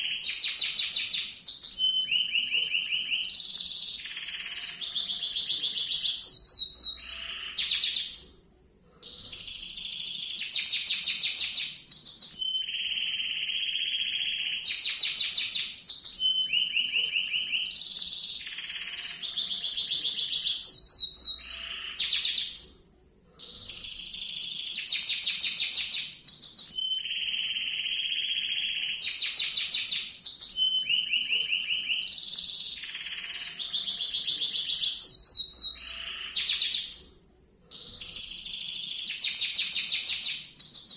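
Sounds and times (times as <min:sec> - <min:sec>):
canary singing trills: 0:00.0 - 0:08.2, 0:09.0 - 0:22.6, 0:23.4 - 0:37.0, 0:37.7 - 0:40.9.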